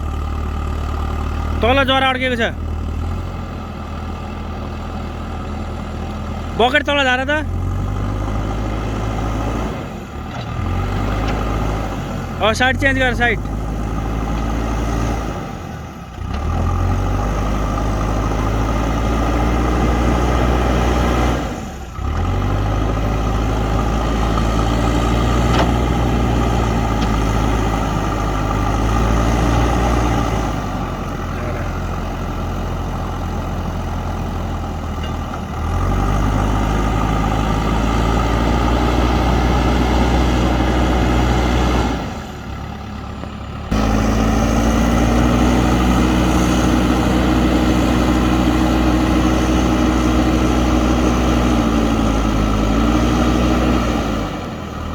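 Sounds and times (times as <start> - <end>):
diesel engine running hard: 0.0 - 54.9.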